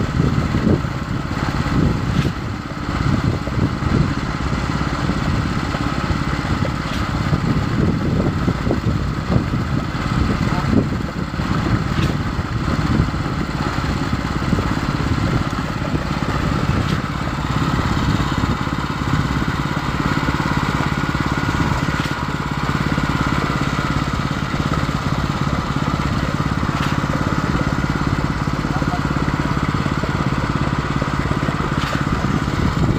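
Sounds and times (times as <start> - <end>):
diesel engine low drone: 0.0 - 32.9.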